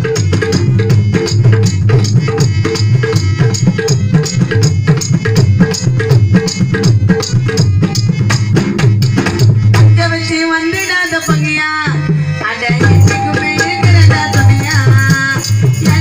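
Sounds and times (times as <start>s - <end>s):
quick steady drumming: 0.0s - 10.3s, 12.7s - 16.0s
held instrumental backing: 0.0s - 16.0s.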